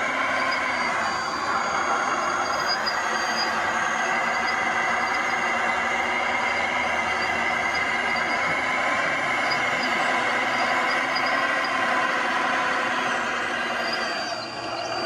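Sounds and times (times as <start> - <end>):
model loader mechanical whine: 0.0 - 15.0.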